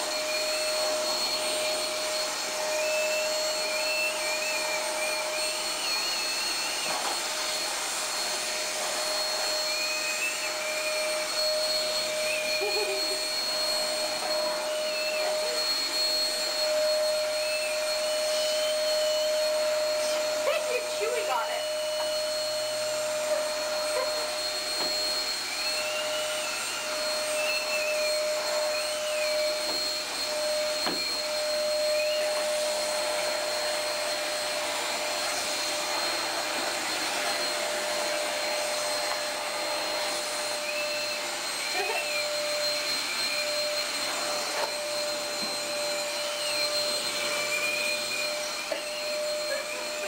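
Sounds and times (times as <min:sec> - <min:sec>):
vacuum cleaner running on carpet: 0:00.0 - 0:50.0.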